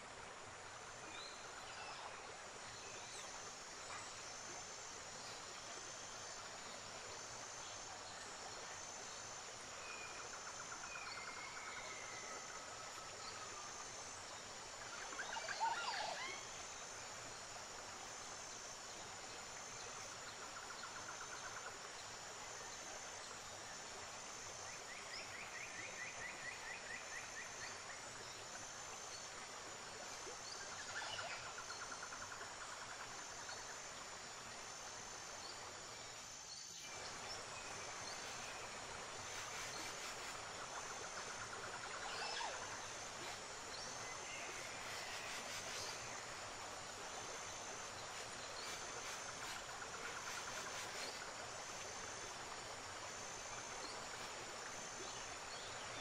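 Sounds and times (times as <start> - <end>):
pulsing high insect call: 0.0 - 56.0.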